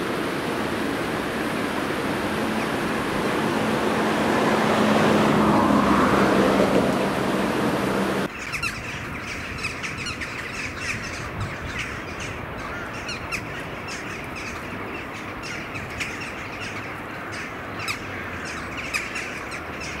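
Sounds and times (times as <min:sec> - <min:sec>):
steady rushing noise: 0:00.0 - 0:20.0
birds calling: 0:01.5 - 0:20.0.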